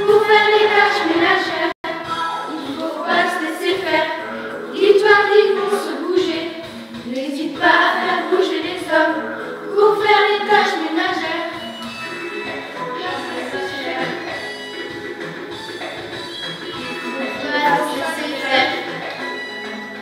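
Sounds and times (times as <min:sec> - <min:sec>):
girls singing together: 0:00.0 - 0:11.8, 0:12.4 - 0:14.5, 0:17.1 - 0:20.0.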